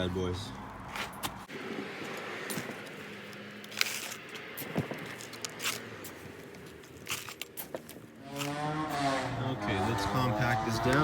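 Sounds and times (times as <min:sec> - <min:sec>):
soil scraping and rustling: 0:00.9 - 0:09.8.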